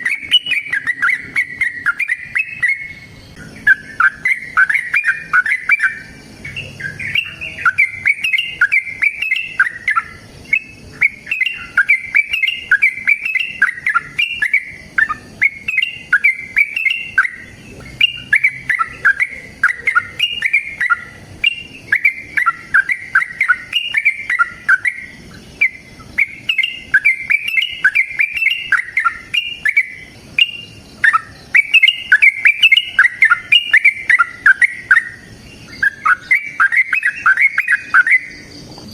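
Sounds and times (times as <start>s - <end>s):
bird singing bubbly chirps: 0.0s - 38.9s.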